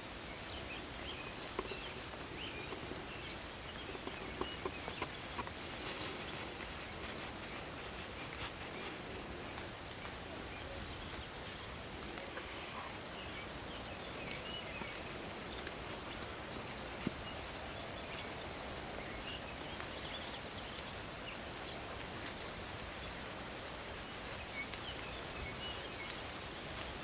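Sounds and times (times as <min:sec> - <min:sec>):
rain and wind in trees: 0:00.0 - 0:27.0.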